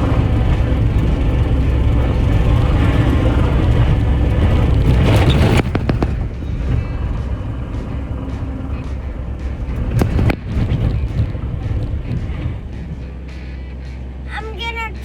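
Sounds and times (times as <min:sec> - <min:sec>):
skid steer engine running: 0:00.0 - 0:15.0.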